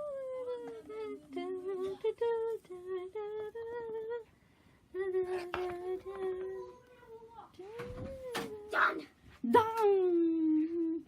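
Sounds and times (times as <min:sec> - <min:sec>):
person softly singing lullaby: 0:00.0 - 0:04.3, 0:04.9 - 0:08.7, 0:09.9 - 0:11.0.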